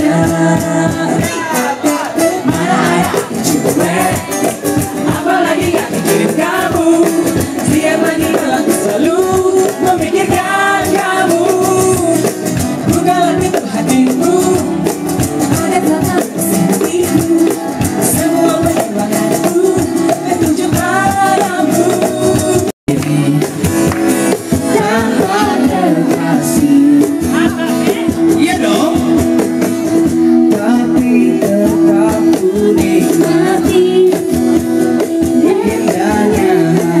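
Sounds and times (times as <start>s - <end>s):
person singing over instruments: 0.0s - 37.0s.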